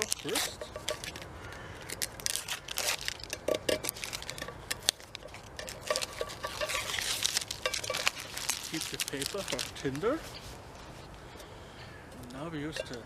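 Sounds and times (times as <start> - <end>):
paper label peeled off tin can: 0.0 - 10.5.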